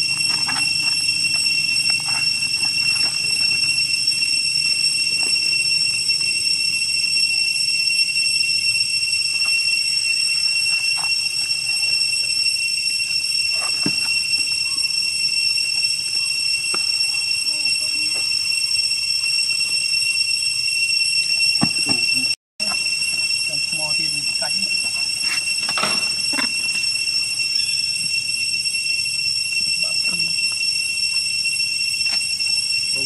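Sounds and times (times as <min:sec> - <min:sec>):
cicadas droning: 0:00.0 - 0:33.0.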